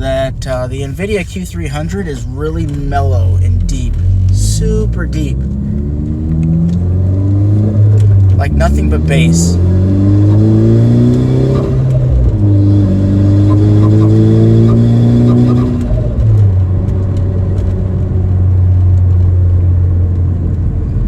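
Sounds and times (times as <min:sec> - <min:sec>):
car engine accelerating: 0:00.0 - 0:21.0
deep exhaust: 0:00.0 - 0:21.0.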